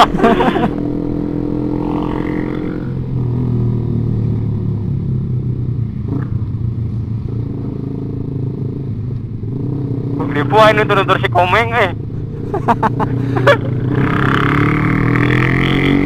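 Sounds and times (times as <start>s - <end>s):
motorcycle engine humming: 0.0s - 16.0s.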